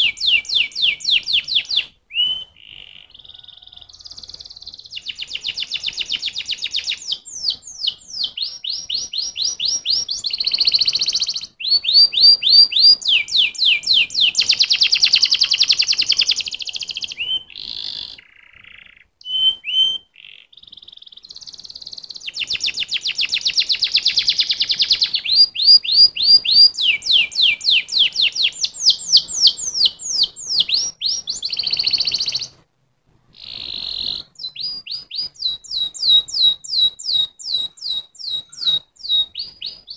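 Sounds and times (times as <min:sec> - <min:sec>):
canary singing: 0:00.0 - 0:32.6, 0:33.3 - 0:39.9.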